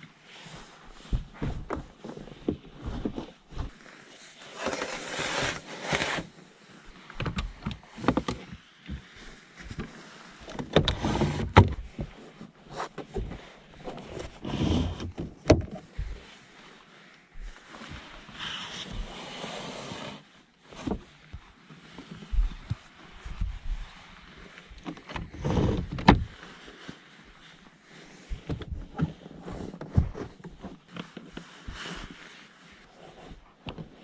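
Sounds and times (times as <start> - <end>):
rustling: 0.3 - 34.0.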